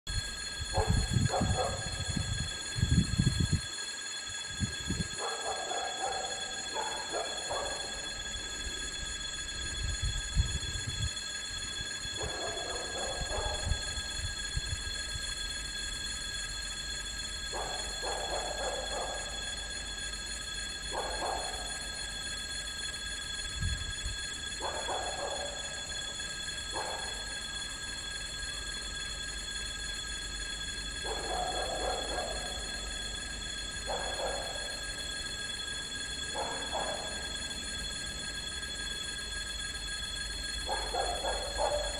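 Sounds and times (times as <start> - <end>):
level crossing warning bell: 0.1 - 41.9.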